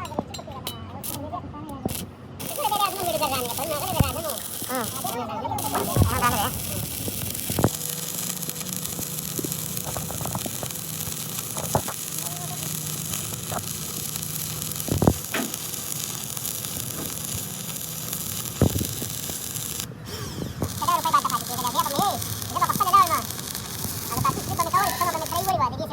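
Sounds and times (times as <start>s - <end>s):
arc welding sizzling crackle: 1.8s - 25.9s.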